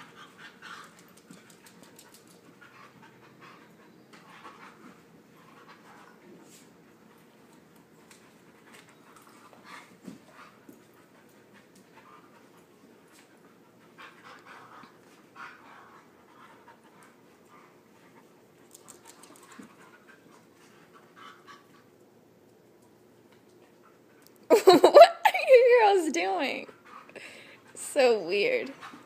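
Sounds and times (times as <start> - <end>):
dogs panting and scuffling: 0.0 - 24.4, 25.3 - 29.0.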